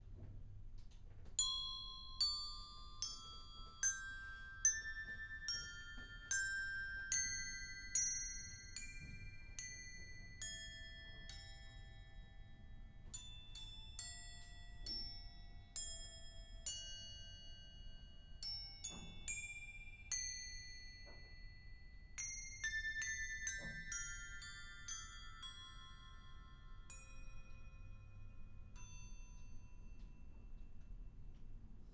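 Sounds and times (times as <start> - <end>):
glockenspiel playing: 1.4 - 30.6.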